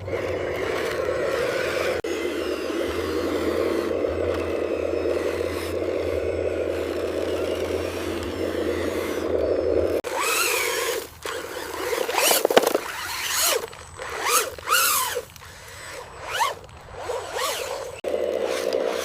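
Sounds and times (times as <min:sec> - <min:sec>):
mechanism creaking: 0:00.0 - 0:19.0
small electric motors whirring: 0:00.0 - 0:19.0.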